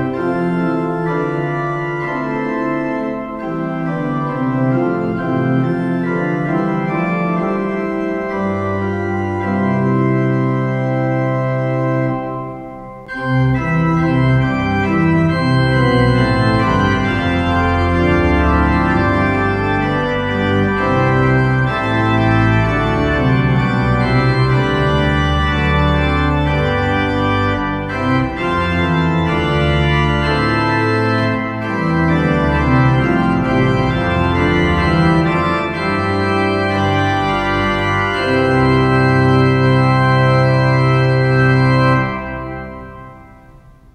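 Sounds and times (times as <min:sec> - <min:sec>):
church organ chords: 0:00.0 - 0:43.9.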